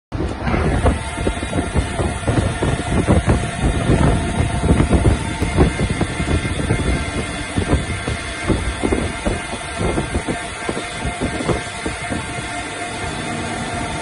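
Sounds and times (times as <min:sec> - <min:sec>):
lathe mechanical hum: 0:00.1 - 0:14.0.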